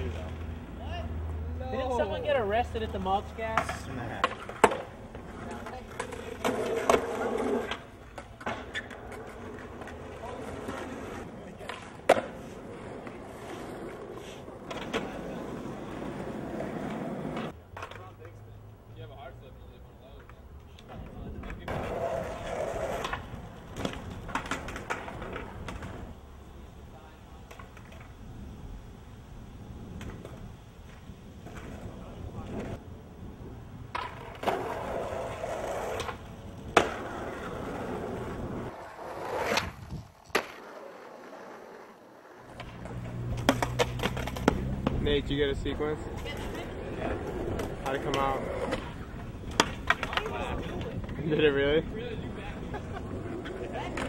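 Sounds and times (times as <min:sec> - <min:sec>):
skateboard wheels rolling on pavement: 0:00.0 - 0:54.0
skateboard clacks: 0:02.9 - 0:18.4, 0:20.1 - 0:26.2, 0:27.0 - 0:28.5, 0:29.7 - 0:32.8, 0:33.8 - 0:54.0.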